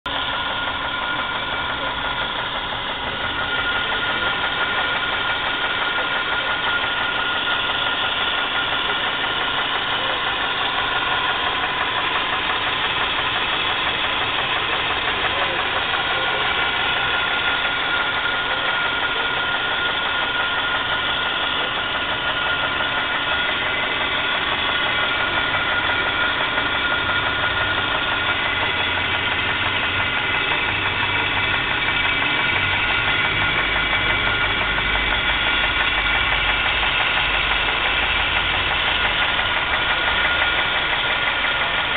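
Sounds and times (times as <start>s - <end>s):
engine idling with fast knock: 0.0s - 41.9s.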